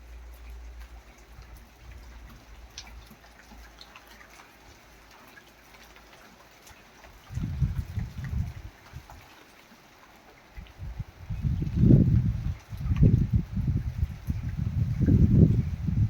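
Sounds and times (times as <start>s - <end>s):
raindrops ticking and dripping: 0.0s - 16.0s.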